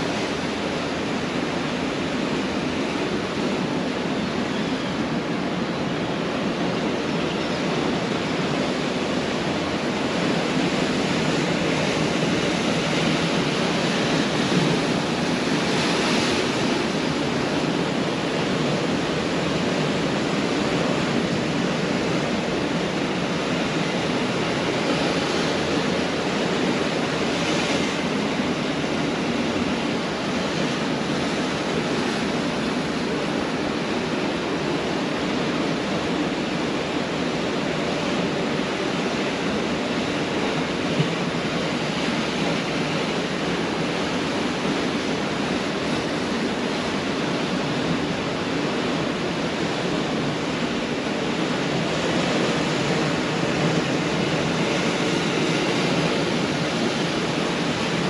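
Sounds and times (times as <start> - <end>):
waves washing on beach: 0.0 - 58.0.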